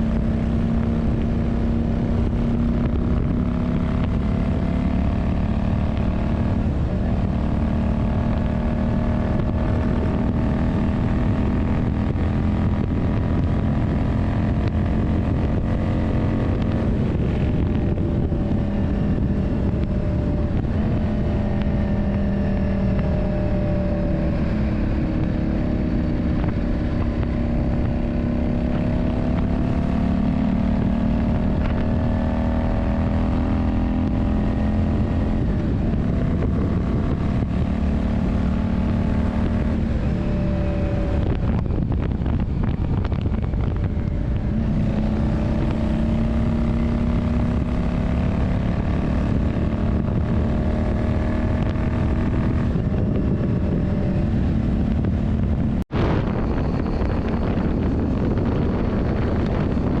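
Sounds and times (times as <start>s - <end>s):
motorcycle engine running: 0.0s - 60.0s
wind rumble on microphone: 0.0s - 60.0s.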